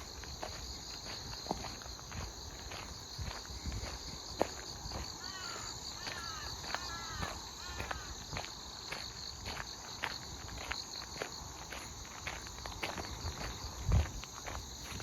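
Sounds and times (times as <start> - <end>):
crickets chirping: 0.0 - 15.0
footsteps: 0.0 - 15.0.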